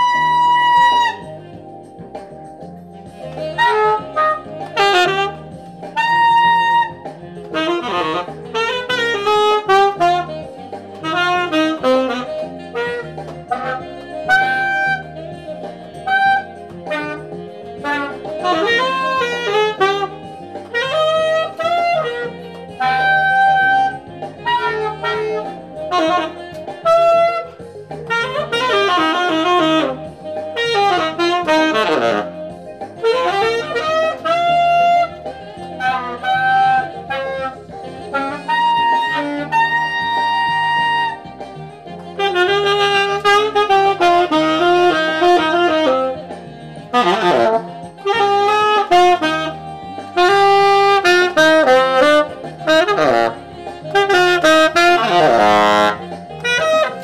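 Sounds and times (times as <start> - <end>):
backing track: 0.0 - 57.0
tenor saxophone melody: 0.0 - 57.0.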